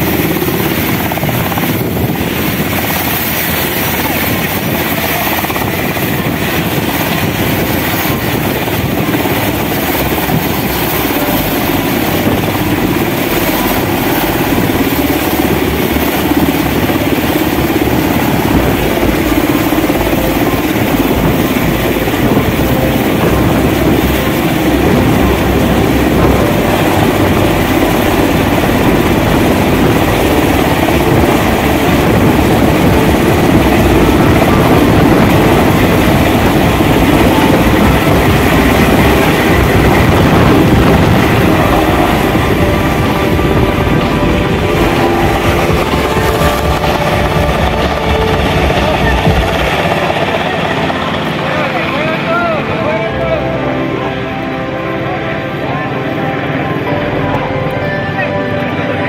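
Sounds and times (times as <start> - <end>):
deep rumble: 0.0 - 59.0
helicopter hovering: 0.0 - 59.0.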